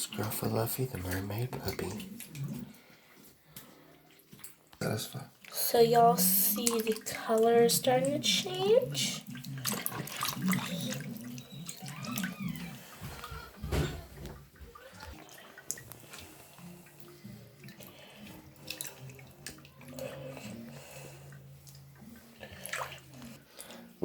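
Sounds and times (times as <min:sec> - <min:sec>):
small splashes and drips: 0:00.0 - 0:23.8
water sloshing and trickling: 0:00.0 - 0:24.0.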